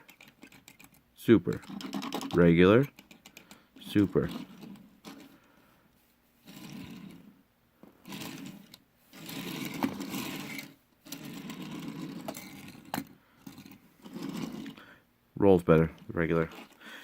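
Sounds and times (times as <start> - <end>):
toy cars rolling: 0.0 - 5.4, 6.4 - 7.3, 8.0 - 14.8, 16.2 - 16.8.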